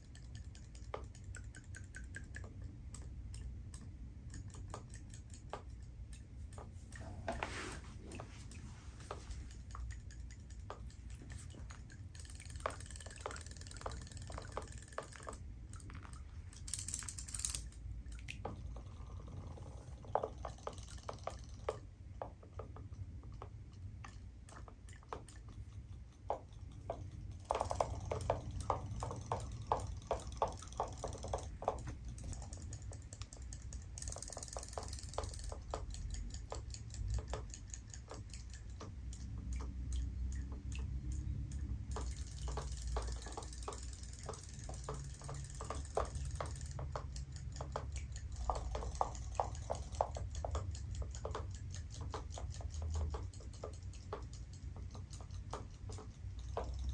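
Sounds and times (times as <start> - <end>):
toy fish tails ticking: 0.0 - 7.1, 8.5 - 56.9.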